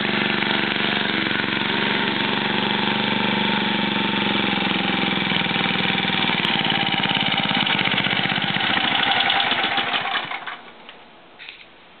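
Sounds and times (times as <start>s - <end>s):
lawn mower engine running: 0.0s - 10.9s.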